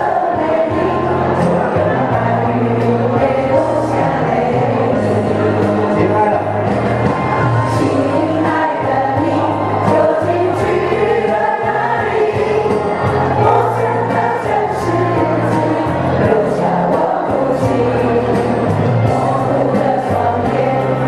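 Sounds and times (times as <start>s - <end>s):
accompaniment with bass line: 0.0s - 21.0s
mixed choir singing: 0.0s - 21.0s.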